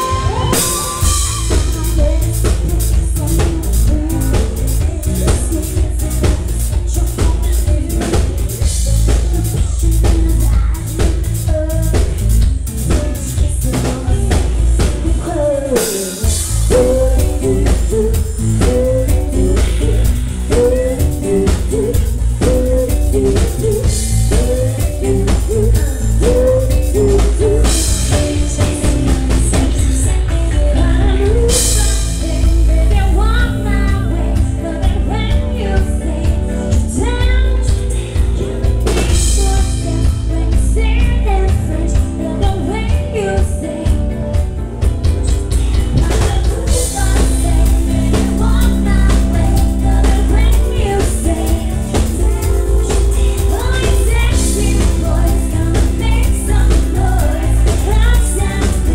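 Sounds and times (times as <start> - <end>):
live band with drum kit: 0.0 - 58.9
woman singing: 0.0 - 58.9.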